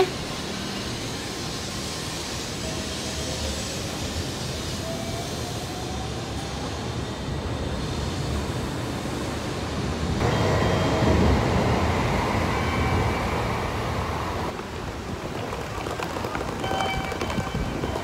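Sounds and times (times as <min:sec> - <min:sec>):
train wheels and air rushing: 0:00.0 - 0:18.0.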